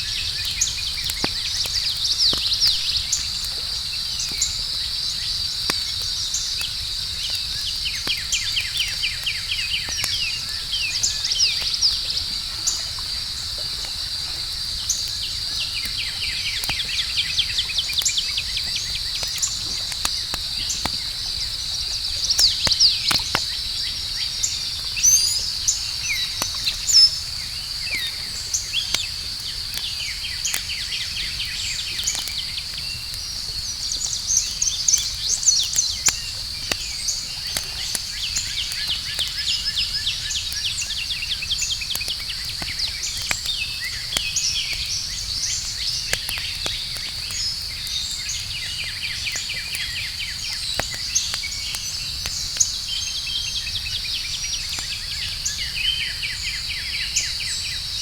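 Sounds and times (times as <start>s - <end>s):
campfire crackling: 0.0s - 58.0s
chirps: 0.0s - 58.0s
night insects droning: 0.0s - 58.0s.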